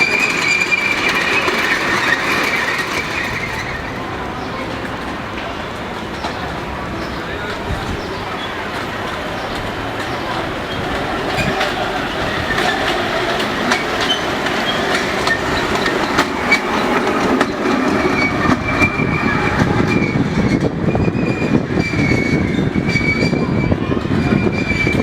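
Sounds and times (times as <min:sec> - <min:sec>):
high wheel squeal: 0:00.0 - 0:05.0, 0:06.2 - 0:25.0
wheels clicking over rail joints: 0:00.0 - 0:25.0.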